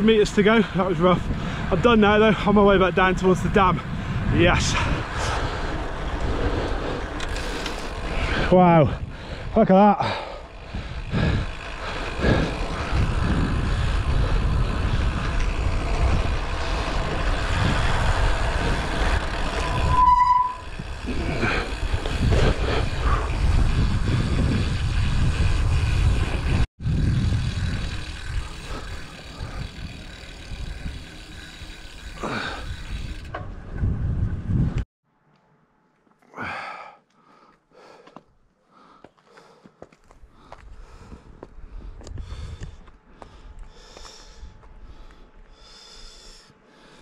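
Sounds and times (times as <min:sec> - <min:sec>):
wind rushing over microphone: 0:00.0 - 0:09.7, 0:10.5 - 0:34.9, 0:40.6 - 0:45.1
bicycle tyre rumble on road: 0:00.0 - 0:34.8, 0:36.4 - 0:47.0.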